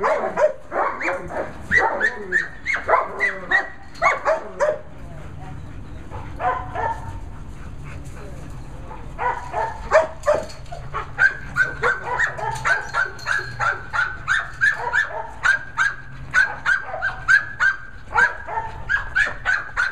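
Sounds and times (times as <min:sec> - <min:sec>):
dog barking rapidly: 0:00.0 - 0:04.8, 0:06.4 - 0:07.1, 0:09.2 - 0:19.9.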